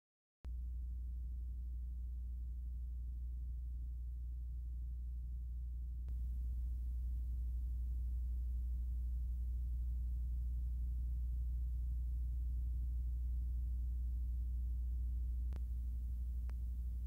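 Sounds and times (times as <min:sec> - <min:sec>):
low electrical hum: 0:00.5 - 0:17.0.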